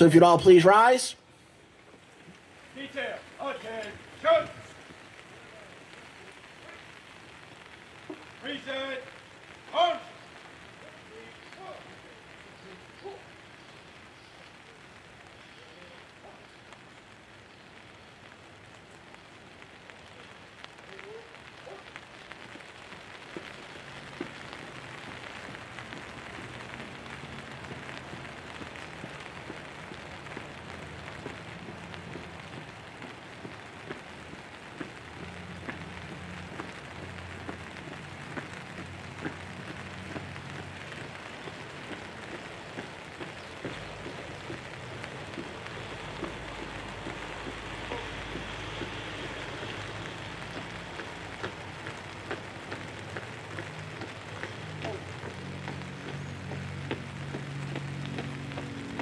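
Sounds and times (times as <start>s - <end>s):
rain pattering on a tent: 0.0s - 59.0s.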